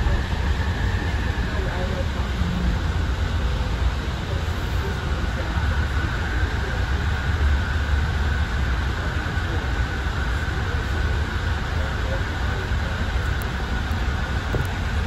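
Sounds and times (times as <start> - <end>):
faint high whine: 0.0 - 15.0
train car low rumble: 0.0 - 15.0.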